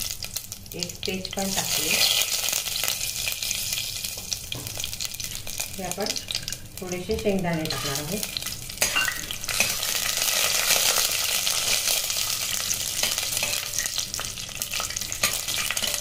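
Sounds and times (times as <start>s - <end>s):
spices sizzling in hot oil: 0.0s - 16.0s.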